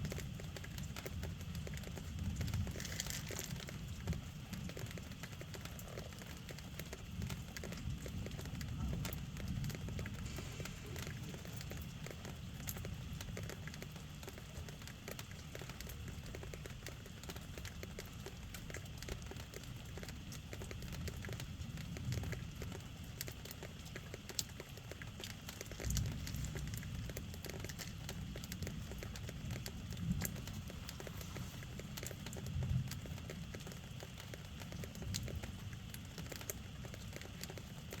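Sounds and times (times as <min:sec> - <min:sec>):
rain drops tapping: 0:00.0 - 0:38.0.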